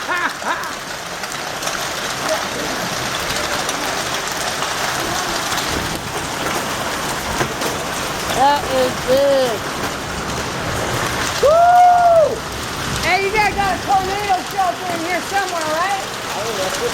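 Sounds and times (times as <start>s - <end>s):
hailstone impacts: 0.0s - 16.9s
heavy rain hissing: 0.0s - 16.9s.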